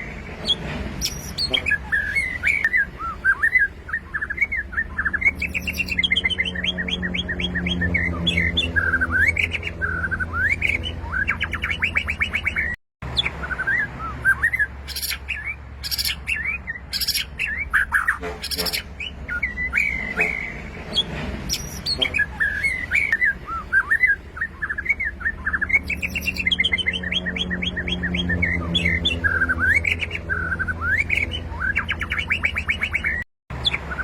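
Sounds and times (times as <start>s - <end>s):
bird singing whistled phrases: 0.0s - 34.0s.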